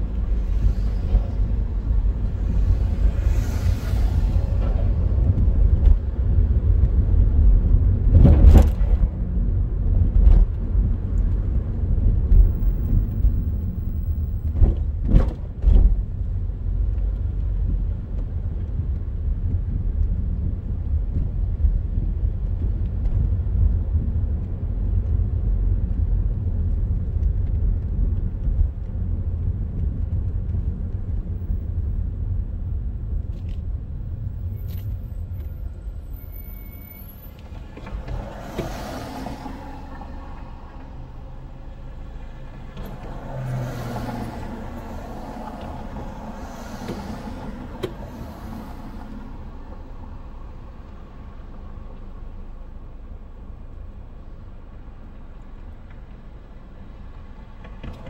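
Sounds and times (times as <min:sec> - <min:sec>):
car driving rumble: 0:00.0 - 0:58.0
traffic: 0:00.0 - 0:58.0.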